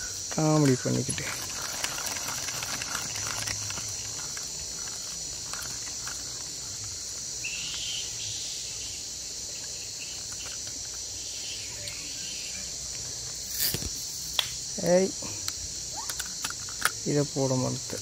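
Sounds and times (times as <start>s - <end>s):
faint insect call: 0.0s - 18.0s
insect chorus droning: 0.0s - 18.0s.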